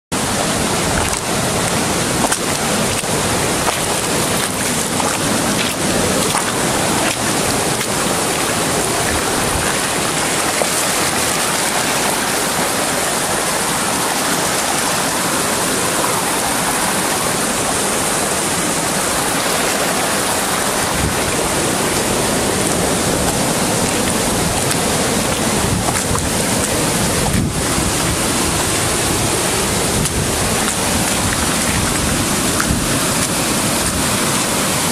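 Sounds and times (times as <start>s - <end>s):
creek in spate: 0.1s - 34.9s
floodwater rushing: 0.1s - 34.9s
heavy rain: 0.1s - 34.9s.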